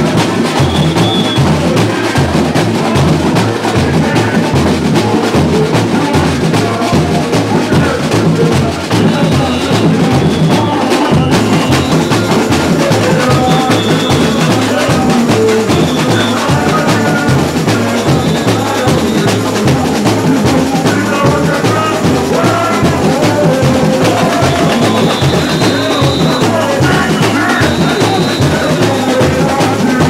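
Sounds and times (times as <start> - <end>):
bass drums pulsing: 0.0 - 30.0
fast snare drumming: 0.0 - 30.0.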